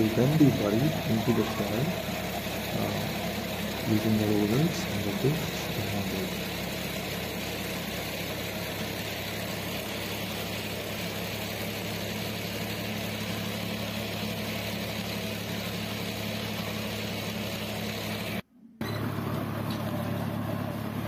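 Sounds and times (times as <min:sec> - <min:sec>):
tractor engine driving rotavator: 0:00.0 - 0:21.0.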